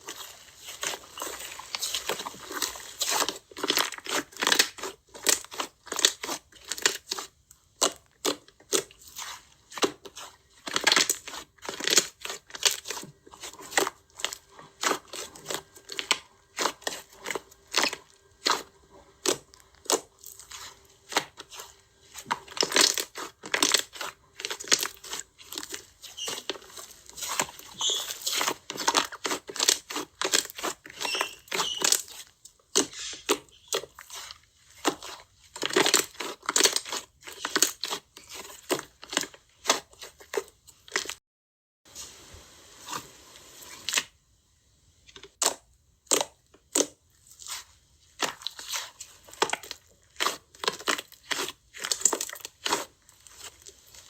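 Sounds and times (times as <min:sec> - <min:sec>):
slime crackling and popping: 0:00.0 - 0:41.2, 0:45.2 - 0:54.0.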